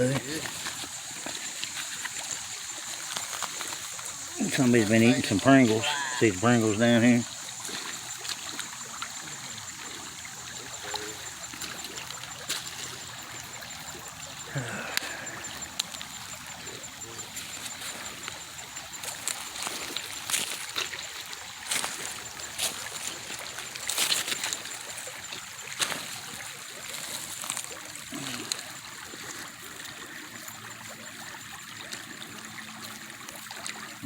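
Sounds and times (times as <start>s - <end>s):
creek water trickling: 0.0s - 34.0s
sharp water splashes: 0.0s - 34.0s.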